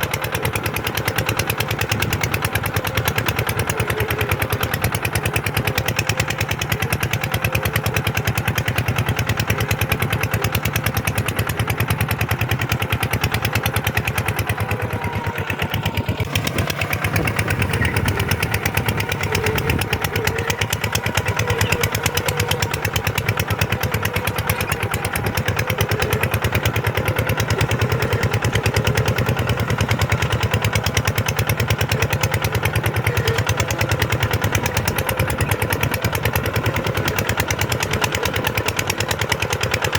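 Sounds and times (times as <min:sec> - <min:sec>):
tractor diesel engine clattering: 0:00.0 - 0:39.9.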